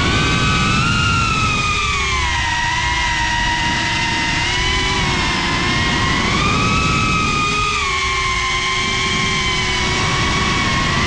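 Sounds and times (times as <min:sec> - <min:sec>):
drone motors and propellers whining: 0:00.0 - 0:11.0.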